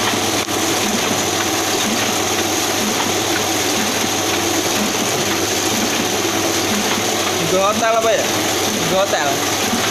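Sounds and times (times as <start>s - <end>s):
printing press running: 0.0s - 9.9s.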